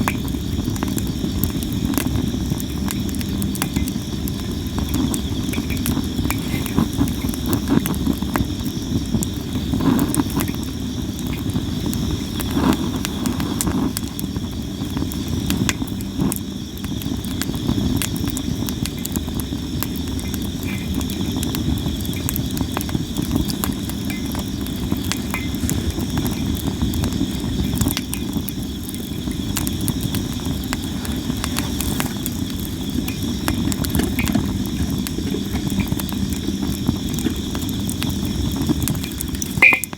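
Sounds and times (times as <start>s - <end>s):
firewood crackling and popping: 0.0s - 39.9s
insects trilling: 0.0s - 39.9s.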